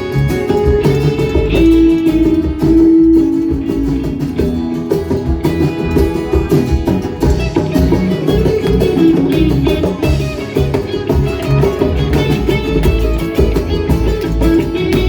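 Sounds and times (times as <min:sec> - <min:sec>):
bass: 0:00.0 - 0:15.0
drums: 0:00.0 - 0:15.0
guitar sliding notes: 0:00.0 - 0:15.0.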